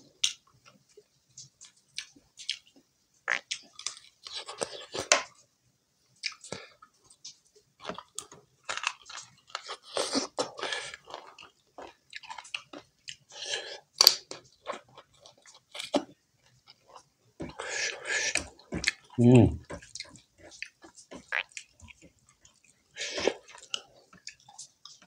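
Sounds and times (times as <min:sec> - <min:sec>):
man chewing food: 0:00.0 - 0:05.4, 0:06.1 - 0:25.0.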